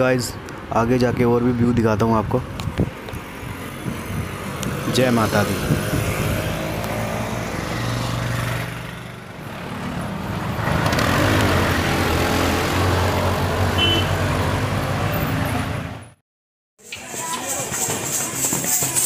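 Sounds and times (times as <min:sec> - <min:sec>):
road and wind noise: 0:00.0 - 0:16.2.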